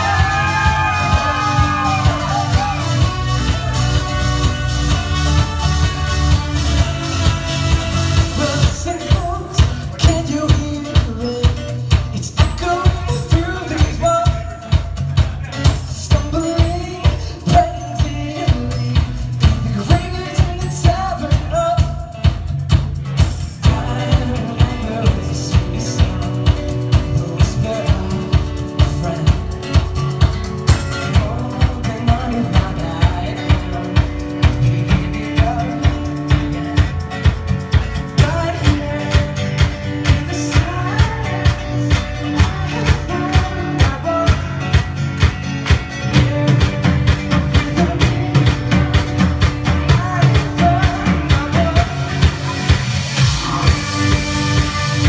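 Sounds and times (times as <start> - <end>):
man singing: 0.0 - 55.0
steady drum beat: 0.0 - 55.0
strummed acoustic guitar: 0.0 - 55.0.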